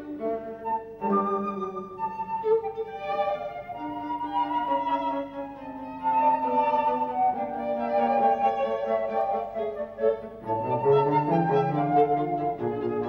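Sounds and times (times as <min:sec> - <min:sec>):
classical chamber music: 0:00.0 - 0:13.0.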